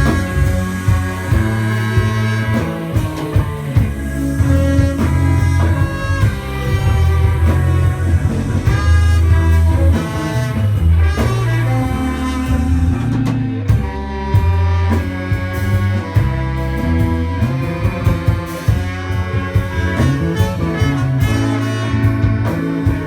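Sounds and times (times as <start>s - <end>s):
drum kit: 0.0s - 23.0s
electric bass: 0.0s - 23.0s
horn section holding notes: 0.0s - 23.0s.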